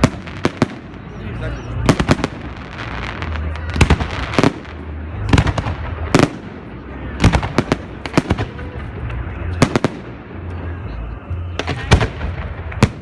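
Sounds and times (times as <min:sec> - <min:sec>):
continuous low rumble: 0:00.0 - 0:13.0
fireworks bursting with sharp bangs: 0:00.0 - 0:13.0.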